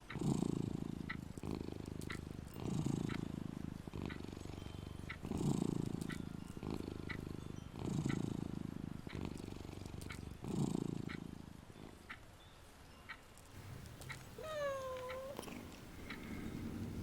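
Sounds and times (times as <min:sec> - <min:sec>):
cat purring: 0:00.0 - 0:12.0, 0:13.6 - 0:17.0.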